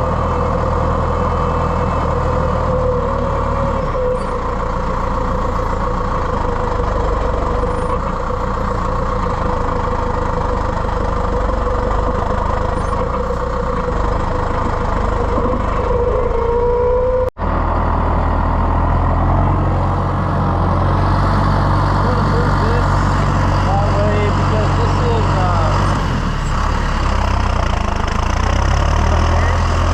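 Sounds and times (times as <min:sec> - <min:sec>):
engine whine: 0:00.0 - 0:29.9
heavy vehicle engine running: 0:00.0 - 0:29.9.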